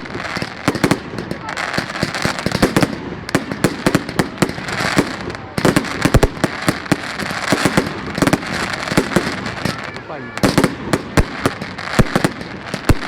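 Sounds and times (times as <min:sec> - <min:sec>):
fireworks crackle: 0:00.0 - 0:13.0
fireworks cracks and bangs: 0:00.0 - 0:13.0.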